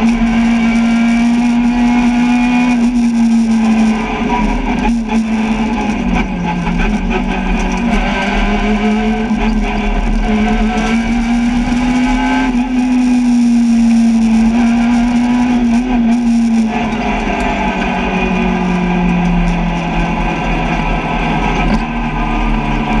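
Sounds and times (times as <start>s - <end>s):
car engine at high revs: 0.0s - 23.0s
road noise: 0.0s - 23.0s.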